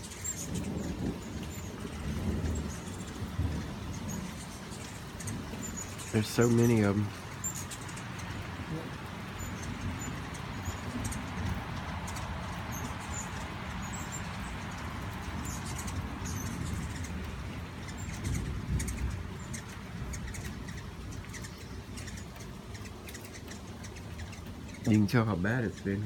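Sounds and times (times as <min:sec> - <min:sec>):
hummingbirds chittering: 0:00.0 - 0:26.0
rain hiss: 0:00.0 - 0:26.0.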